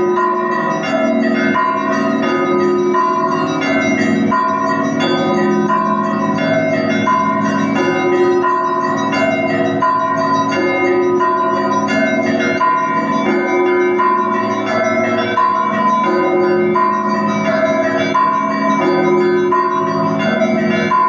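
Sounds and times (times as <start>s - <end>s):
church bells pealing: 0.0s - 21.0s.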